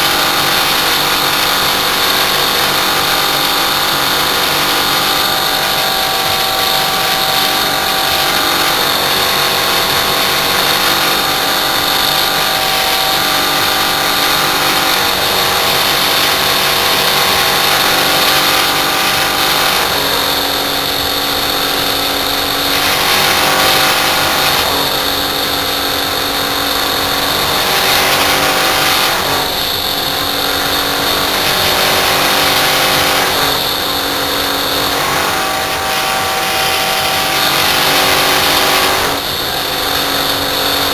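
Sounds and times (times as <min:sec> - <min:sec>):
air conditioner compressor humming: 0:00.0 - 0:40.9.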